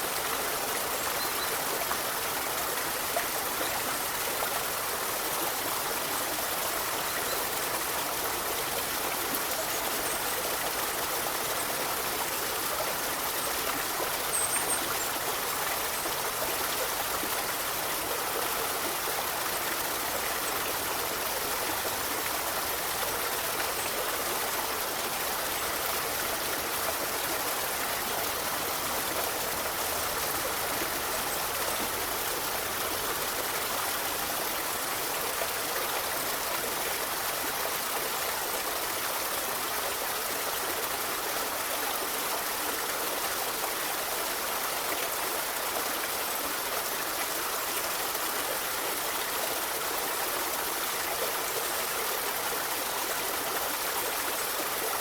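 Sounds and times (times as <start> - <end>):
river water babbling over stones: 0.0 - 55.0.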